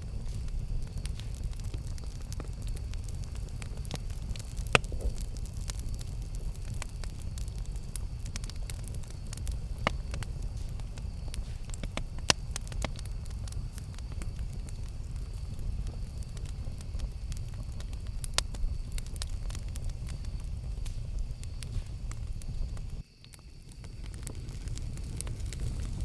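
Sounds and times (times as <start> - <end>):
low steady rumble: 0.0 - 23.0
campfire crackling: 0.0 - 26.0
sharp fire pops: 0.0 - 26.0.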